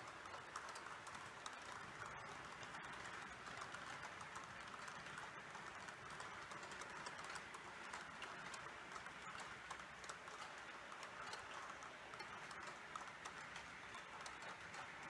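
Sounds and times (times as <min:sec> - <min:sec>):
light clicking of wheels on track: 0:00.0 - 0:15.0
model train wheels hissing on rails: 0:00.0 - 0:15.0.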